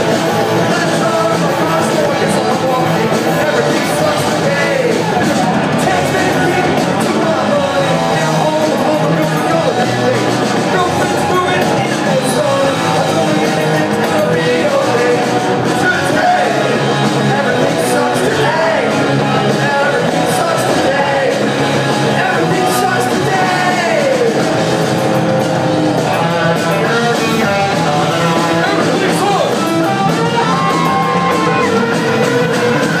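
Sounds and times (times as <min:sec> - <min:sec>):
man singing: 0:00.0 - 0:24.5, 0:26.0 - 0:29.8
live punk rock band: 0:00.0 - 0:33.0.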